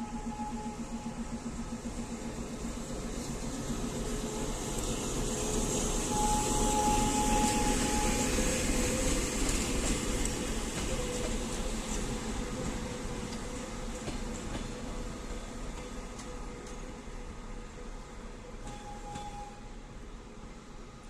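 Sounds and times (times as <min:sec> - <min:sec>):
diesel locomotive engine: 0:00.0 - 0:21.0.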